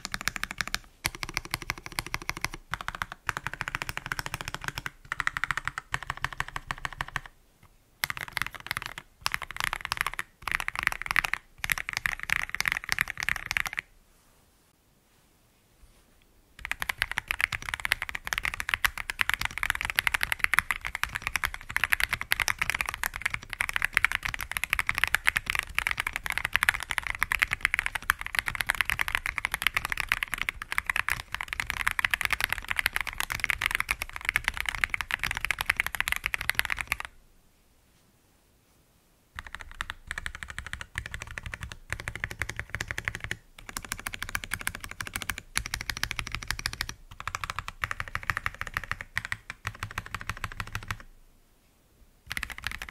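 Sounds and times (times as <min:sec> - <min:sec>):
mechanical keyboard typing: 0:00.0 - 0:07.4, 0:08.0 - 0:13.9, 0:16.6 - 0:37.2, 0:39.4 - 0:51.1, 0:52.3 - 0:52.9.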